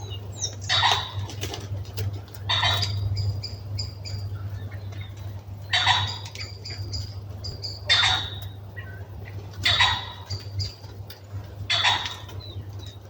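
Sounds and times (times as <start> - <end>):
small birds calling: 0.0 - 13.0.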